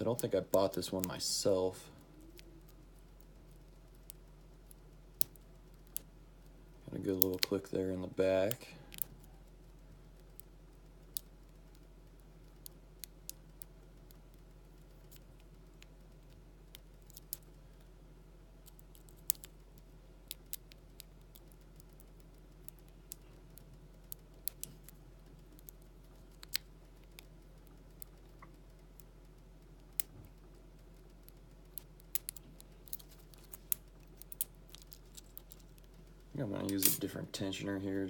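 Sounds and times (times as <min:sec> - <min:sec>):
faint low hum: 0:00.0 - 0:38.0.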